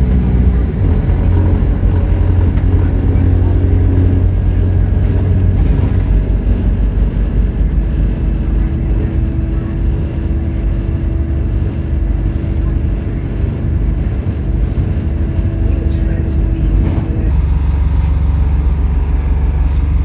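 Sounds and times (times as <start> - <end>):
bus engine low drone: 0.0 - 20.0
drivetrain whine: 0.0 - 20.0
road noise: 0.0 - 20.0.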